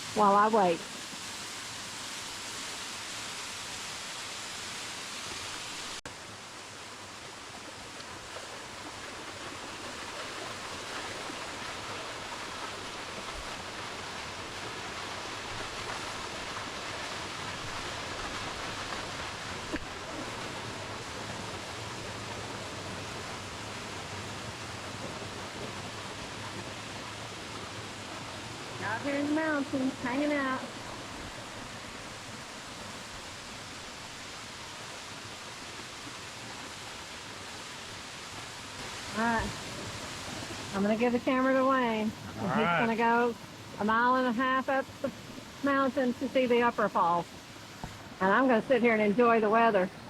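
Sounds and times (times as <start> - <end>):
cascading water rushing: 0.0 - 50.0.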